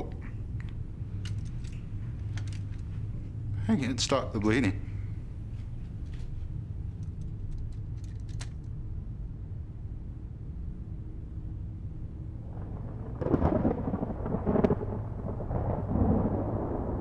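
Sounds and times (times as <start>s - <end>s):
low ominous drone: 0.0s - 17.0s.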